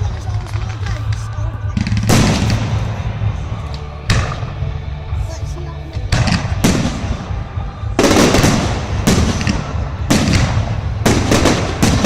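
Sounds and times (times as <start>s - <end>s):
fireworks exploding with echo: 0.0s - 5.2s, 6.0s - 12.0s.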